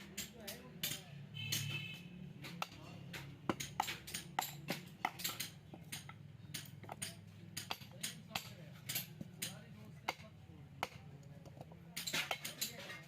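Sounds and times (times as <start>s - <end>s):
hand tools clinking on metal: 0.0s - 1.8s, 2.4s - 13.0s.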